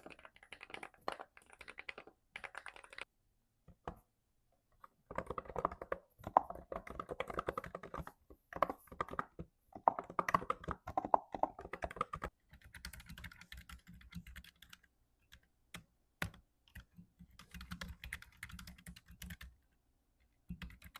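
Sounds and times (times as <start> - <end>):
typing on computer keyboard: 0.0 - 3.1, 5.1 - 8.0, 8.6 - 19.5, 20.5 - 20.9.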